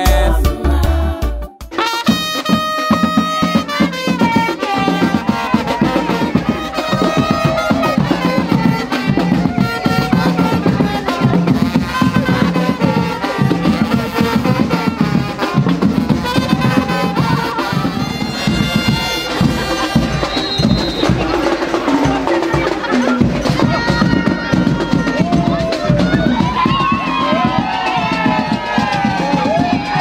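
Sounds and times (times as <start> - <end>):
brass band music: 0.0 - 30.0.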